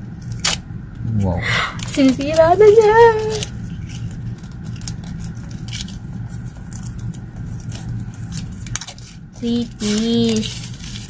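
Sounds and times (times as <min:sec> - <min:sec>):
steady low hum: 0:00.0 - 0:11.0
charger and plastic wrapping rustling: 0:01.8 - 0:11.0.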